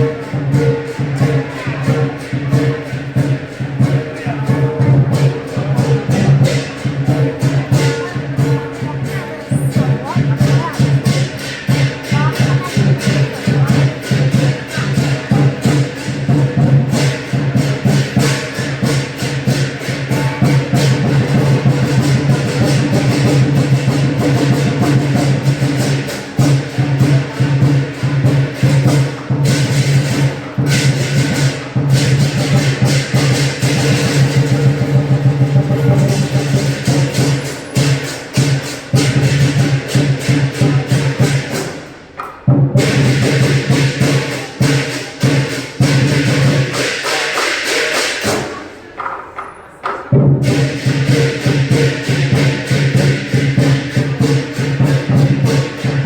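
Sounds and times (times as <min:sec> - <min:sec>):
big drum beaten in fast rolls: 0:00.0 - 0:49.0, 0:50.1 - 0:56.0
clashing cymbals: 0:00.0 - 0:49.0, 0:50.1 - 0:56.0.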